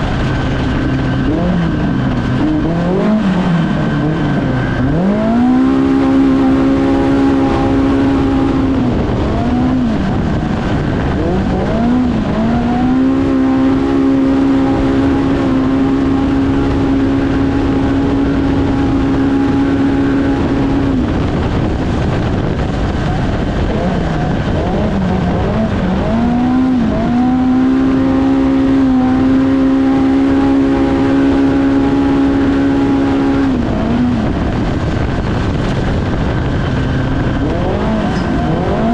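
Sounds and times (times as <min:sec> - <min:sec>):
constant rushing noise: 0:00.0 - 0:38.9
engine at high rpm: 0:00.0 - 0:38.9.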